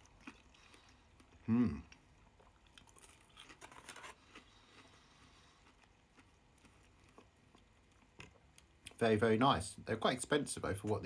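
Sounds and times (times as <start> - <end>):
faint chewing crackles: 0.0 - 9.1.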